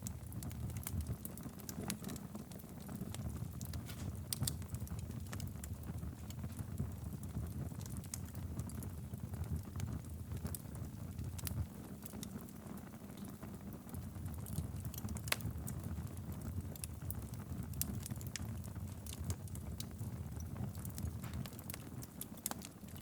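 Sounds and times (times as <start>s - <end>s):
fireplace fire burning: 0.0s - 23.0s.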